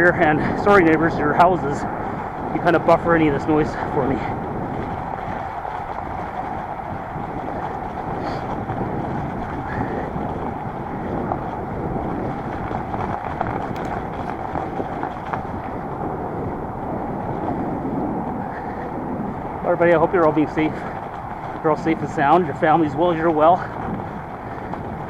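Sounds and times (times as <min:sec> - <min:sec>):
wind rushing on microphone: 0:00.0 - 0:25.0.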